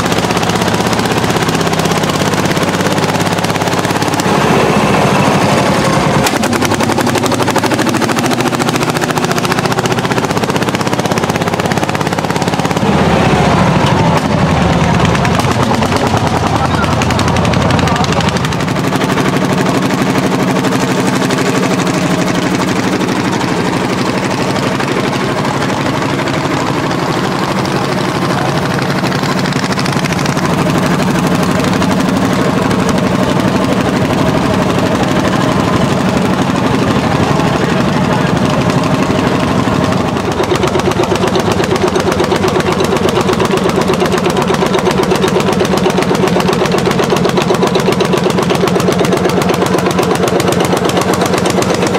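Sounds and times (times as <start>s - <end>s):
diesel engine exhaust beat: 0.0s - 51.9s.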